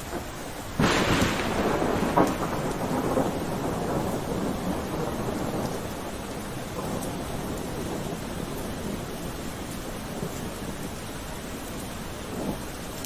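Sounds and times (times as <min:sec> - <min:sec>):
steady rain: 0:00.0 - 0:13.0
thunder clap and rumble: 0:00.0 - 0:13.0.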